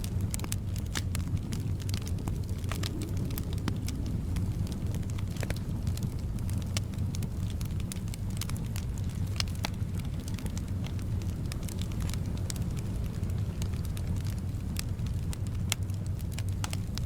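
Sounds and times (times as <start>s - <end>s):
fire crackling in fireplace: 0.0s - 17.0s
wind: 0.0s - 17.0s.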